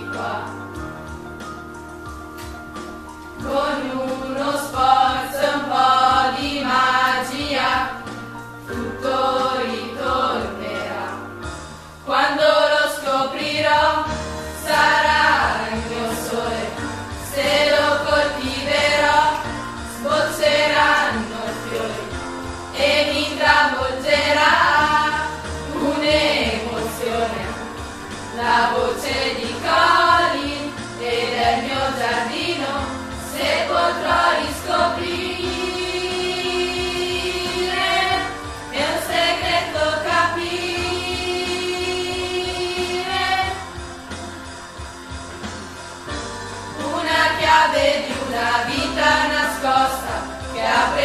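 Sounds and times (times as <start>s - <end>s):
group of voices singing: 0.0s - 0.8s, 3.4s - 43.8s, 46.8s - 51.0s
instrumental accompaniment: 0.0s - 51.0s.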